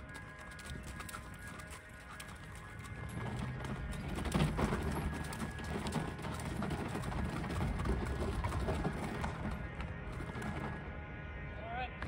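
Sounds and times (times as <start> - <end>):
horse hoofbeats on gravel: 0.0 - 11.1.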